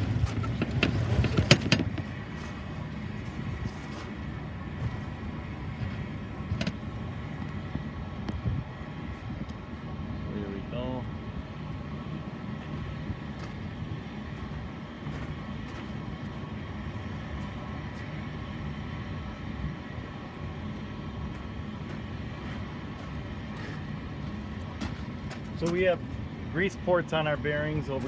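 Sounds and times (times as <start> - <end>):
hvac equipment humming: 0.0 - 28.0.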